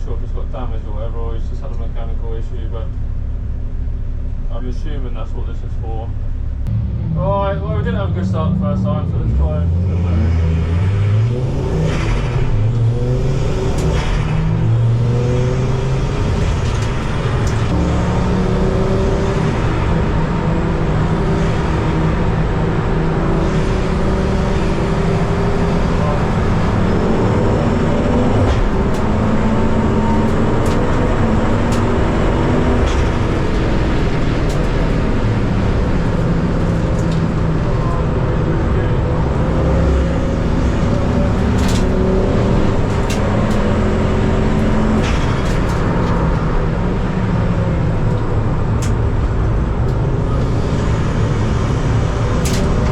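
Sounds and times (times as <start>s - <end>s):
race car engine accelerating: 4.5s - 52.9s.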